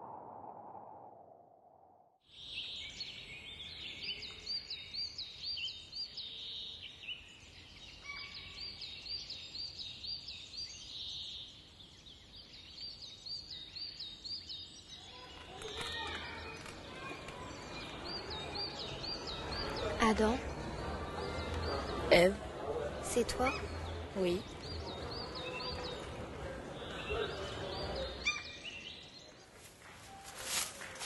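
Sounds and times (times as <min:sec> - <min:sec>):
small birds chirping: 0:02.3 - 0:29.7.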